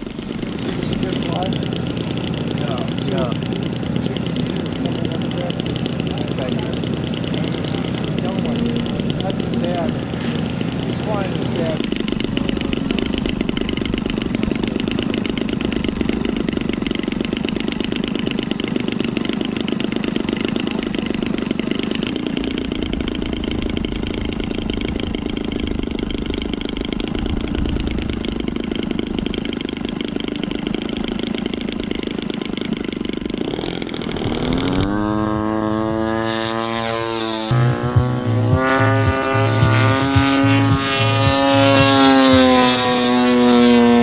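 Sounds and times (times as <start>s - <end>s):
model airplane engine running: 0.0s - 44.0s.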